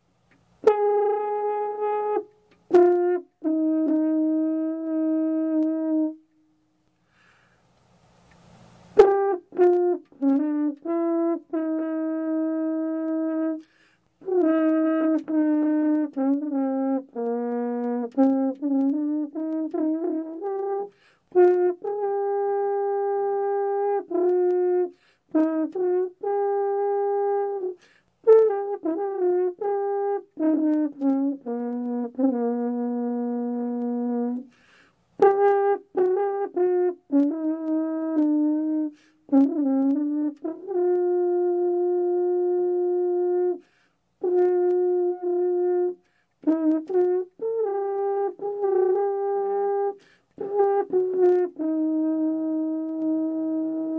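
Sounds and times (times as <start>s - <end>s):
french horn melody: 0.3s - 7.3s, 8.3s - 53.9s.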